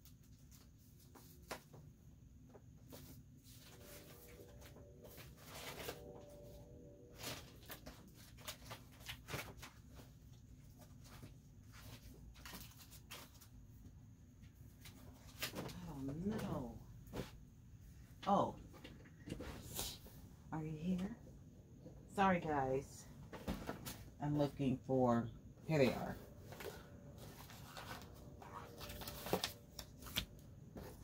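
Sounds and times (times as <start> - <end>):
rustling of craft supplies: 0.0 - 21.2, 22.2 - 31.0.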